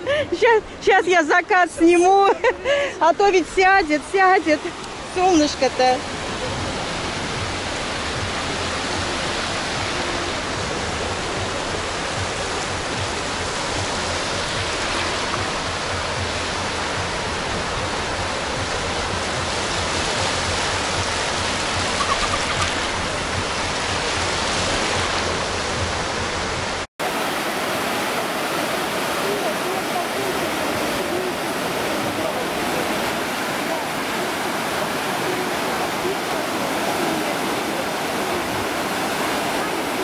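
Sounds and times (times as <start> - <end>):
sea surf on beach: 0.0 - 40.0.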